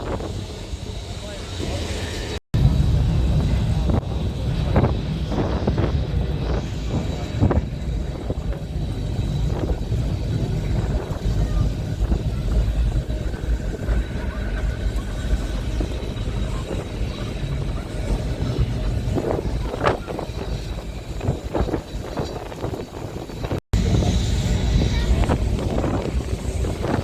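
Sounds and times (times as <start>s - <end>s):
faint whine: 0.0s - 27.0s
tram rumbling along track: 0.0s - 27.0s
wind buffeting microphone: 0.0s - 27.0s.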